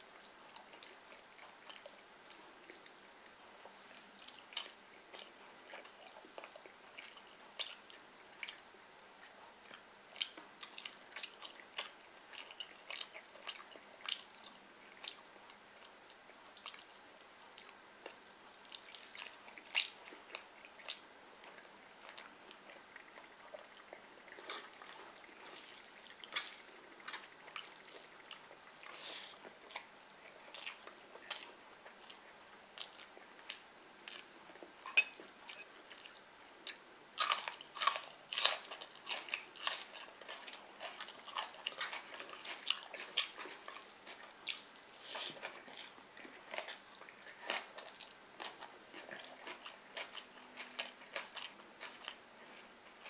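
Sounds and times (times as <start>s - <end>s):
wet chewing and lip-smacking: 0.0s - 53.0s.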